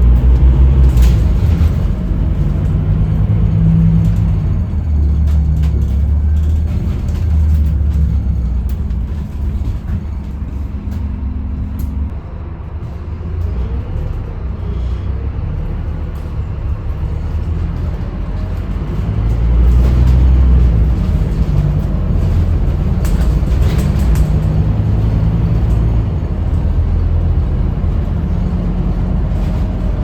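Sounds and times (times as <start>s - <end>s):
bus diesel engine droning: 0.0s - 30.0s.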